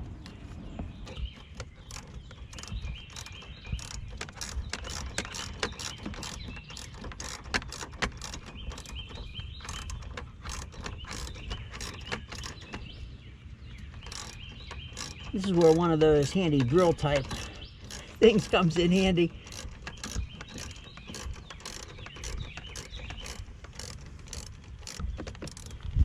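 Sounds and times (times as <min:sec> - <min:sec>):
ratchet wrench clicking: 0:01.1 - 0:12.7, 0:14.0 - 0:25.8.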